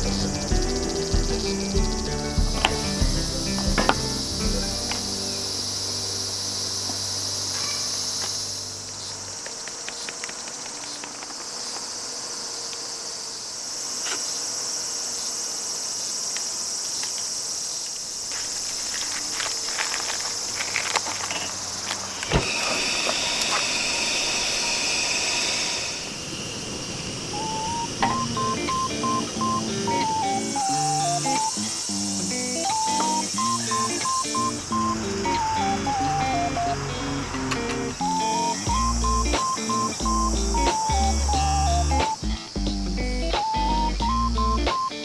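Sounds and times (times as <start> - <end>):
insects chirping: 0.0 - 45.0.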